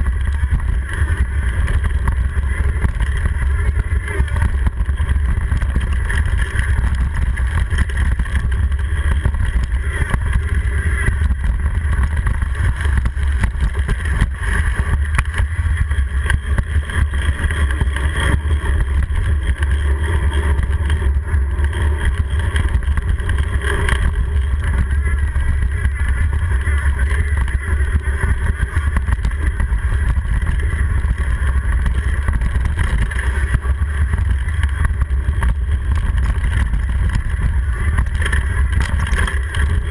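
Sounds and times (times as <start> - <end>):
bike and mount rattling: 0.0 - 39.9
wind rushing over microphone: 0.0 - 39.9.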